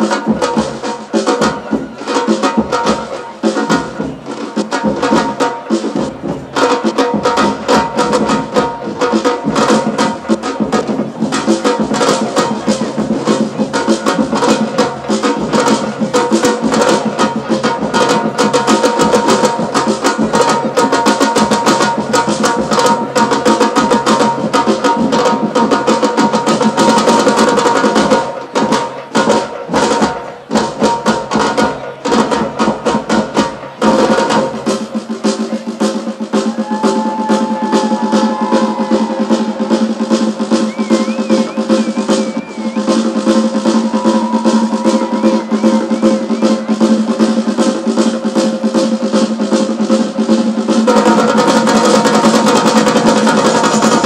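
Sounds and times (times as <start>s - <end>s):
rolling snare drums: 0.0s - 54.0s
samba drum ensemble: 0.0s - 54.0s.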